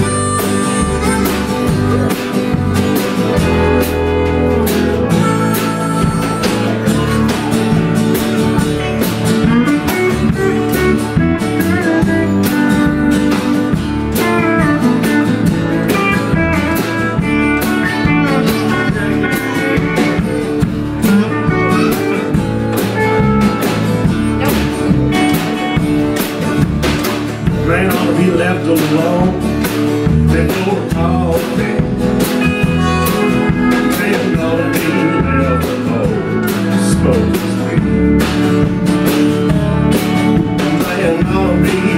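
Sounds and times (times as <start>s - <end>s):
country blues band playing: 0.0s - 41.9s
sliding steel guitar notes: 0.0s - 41.9s.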